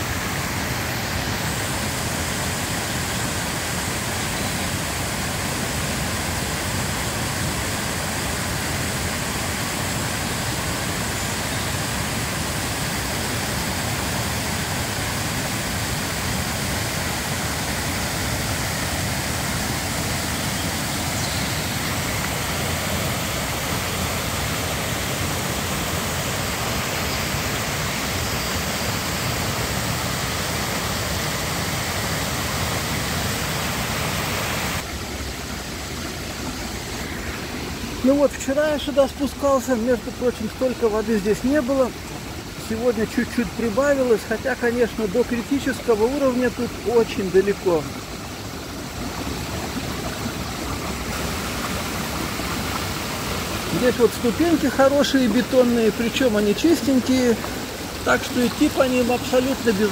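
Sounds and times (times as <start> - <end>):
stream rushing over cascade: 0.0 - 59.9.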